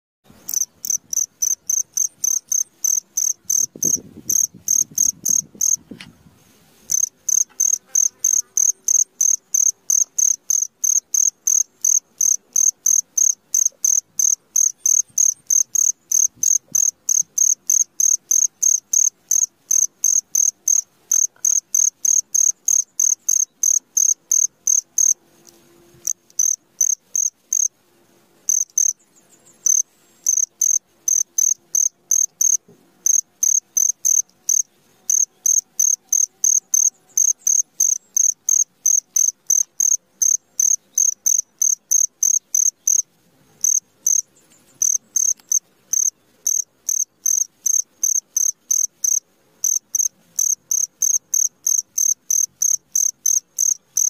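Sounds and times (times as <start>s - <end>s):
cricket chirping: 0.4s - 5.8s, 6.9s - 25.2s, 26.0s - 27.7s, 28.5s - 29.0s, 29.6s - 54.0s.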